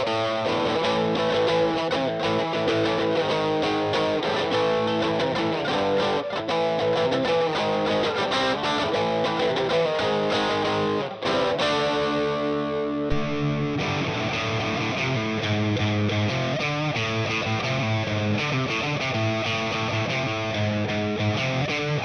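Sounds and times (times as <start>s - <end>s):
overdriven electric guitar: 0.0s - 22.0s.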